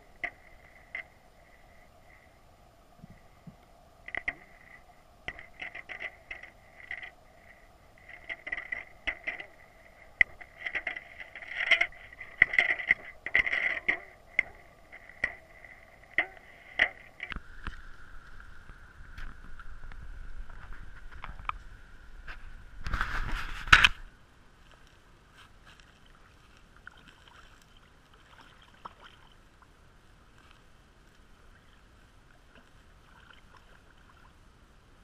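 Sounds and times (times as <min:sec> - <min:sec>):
underwater clicks and scrapes: 0:00.0 - 0:02.4, 0:03.0 - 0:29.3
underwater stream hum: 0:00.0 - 0:35.0.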